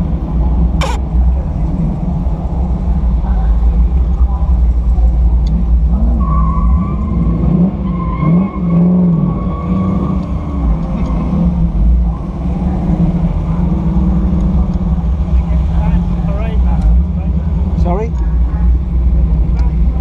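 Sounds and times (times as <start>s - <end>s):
car engine running: 0.0s - 7.8s, 9.0s - 20.0s.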